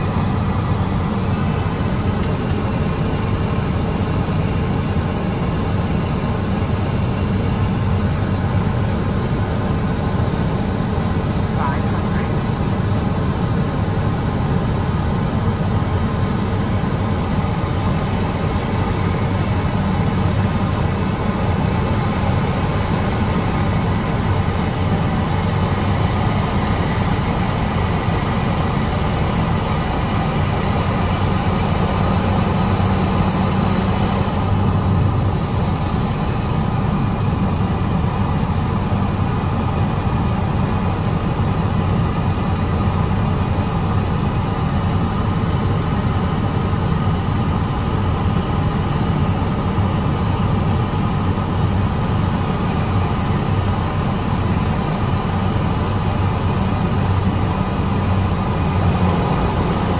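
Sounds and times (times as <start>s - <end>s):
turboprop engine droning: 0.0s - 59.9s.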